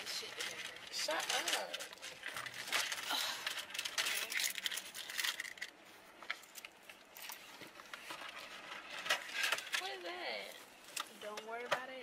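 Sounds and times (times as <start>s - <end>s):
rustling and clicks of belongings: 0.0s - 12.0s.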